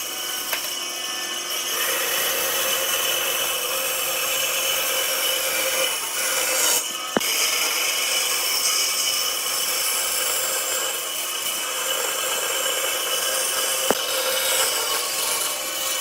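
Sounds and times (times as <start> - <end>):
tool working wood: 0.0 - 16.0.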